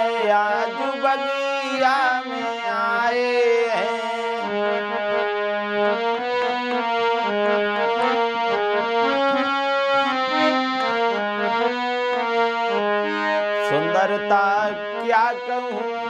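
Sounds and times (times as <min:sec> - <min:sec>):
harmonium melody: 0:00.0 - 0:16.0.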